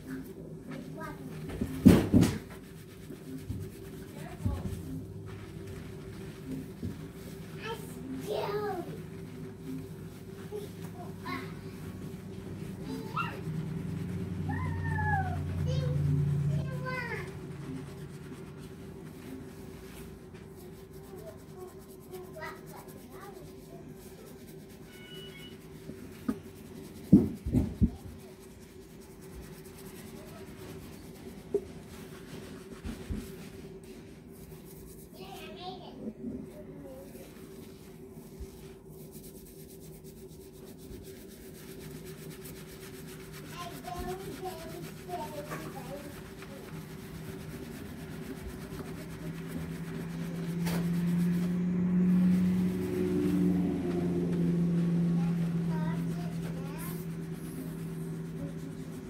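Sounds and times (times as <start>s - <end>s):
hands rubbing lather in wet hair: 0.0s - 59.0s
steady low hum: 0.0s - 59.0s.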